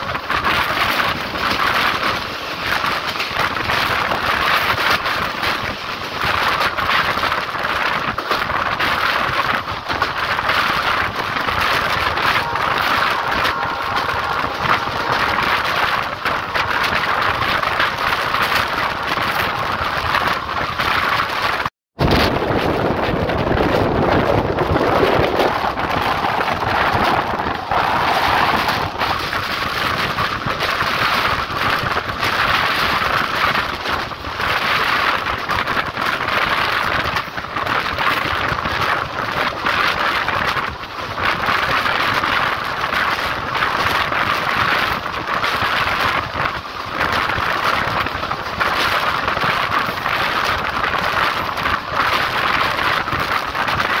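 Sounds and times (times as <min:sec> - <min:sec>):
train wheels rumbling on track: 0:00.0 - 0:54.0
wind on microphone: 0:00.0 - 0:54.0.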